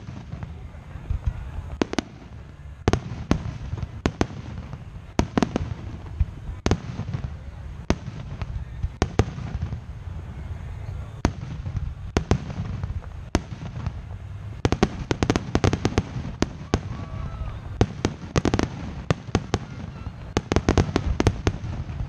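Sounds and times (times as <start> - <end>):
continuous low rumble: 0.0 - 22.0.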